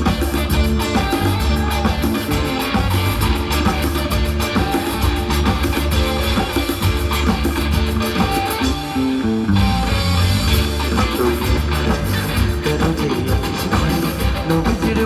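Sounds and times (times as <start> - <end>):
drum kit: 0.0 - 15.0
live band playing instrumental: 0.0 - 15.0
steady bass line: 0.0 - 15.0.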